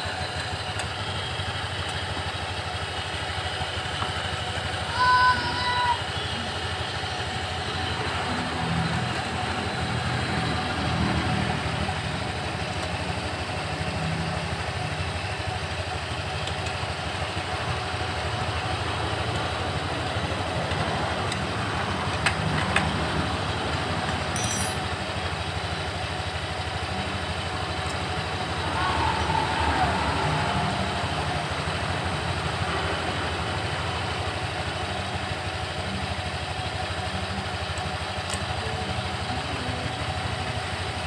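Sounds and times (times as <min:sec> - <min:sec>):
scooter engine idling: 0:00.0 - 0:41.0.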